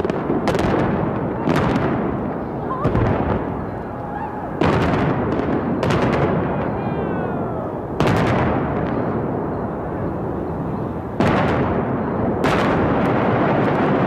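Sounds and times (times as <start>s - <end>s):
heavy explosion booms: 0.0s - 3.7s, 4.6s - 14.0s.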